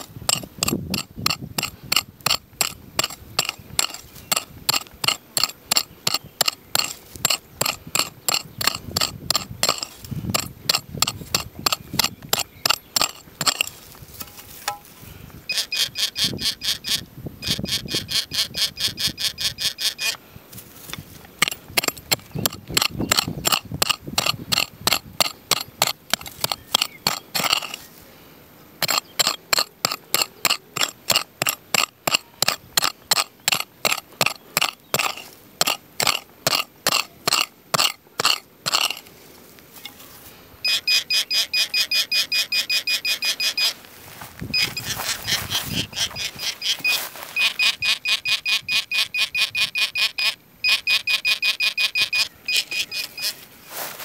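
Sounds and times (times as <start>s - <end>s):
metal detector beeping: 0.0s - 14.9s, 15.5s - 20.2s, 21.3s - 27.9s, 28.8s - 39.0s, 39.8s - 43.8s, 44.4s - 53.9s.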